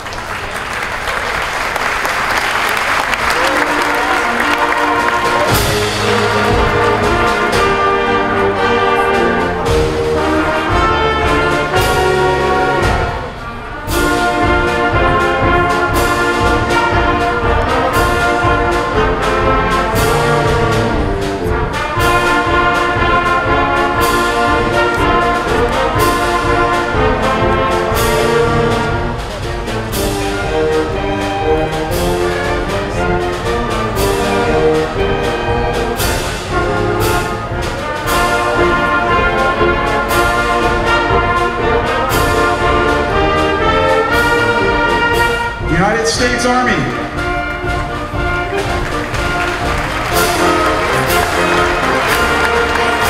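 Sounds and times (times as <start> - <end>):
concert band playing: 0.0 - 53.0
bass drum beats: 4.3 - 53.0.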